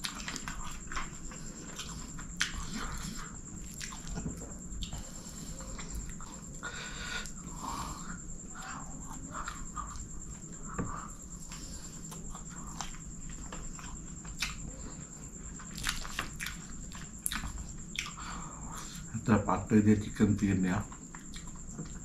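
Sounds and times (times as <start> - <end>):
close chewing: 0.0 - 7.5, 8.1 - 19.0, 20.9 - 22.0.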